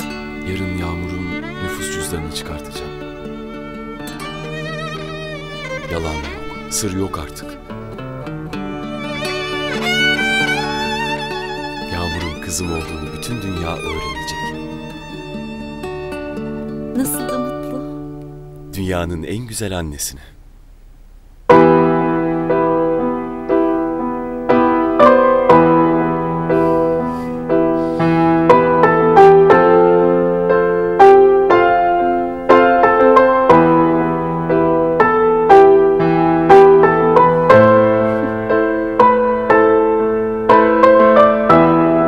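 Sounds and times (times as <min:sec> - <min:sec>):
slow gentle piano melody: 0:00.0 - 0:19.4, 0:21.5 - 0:42.0.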